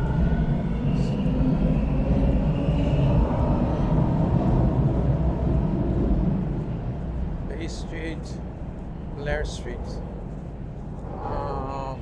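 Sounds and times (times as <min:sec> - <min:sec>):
faint high whine: 0:00.0 - 0:12.0
subway train rumble: 0:00.0 - 0:12.0.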